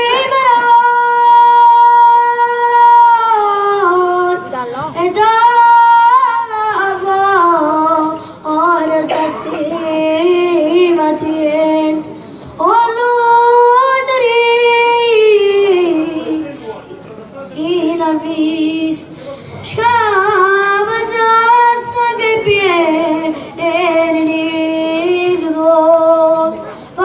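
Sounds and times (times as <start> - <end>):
boy singing into microphone: 0.0 - 16.6, 17.5 - 27.0.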